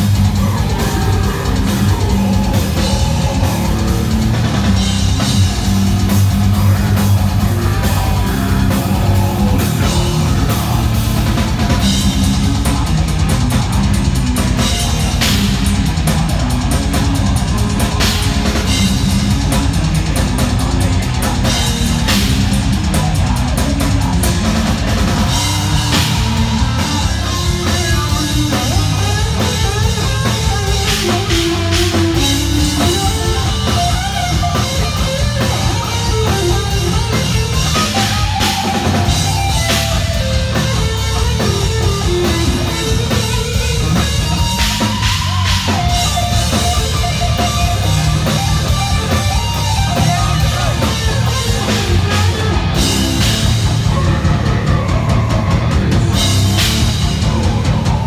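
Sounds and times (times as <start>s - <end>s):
dense drumming: 0.0s - 58.0s
distorted electric guitars: 0.0s - 58.0s.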